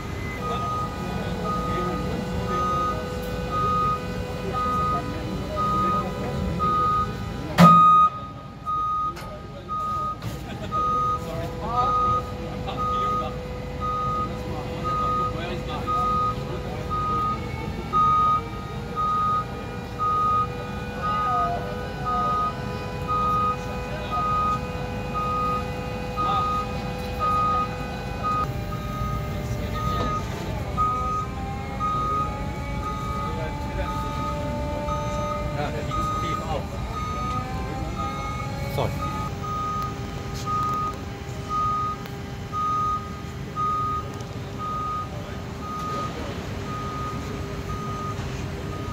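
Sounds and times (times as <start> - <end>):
high warning beeps: 0.0 - 48.9.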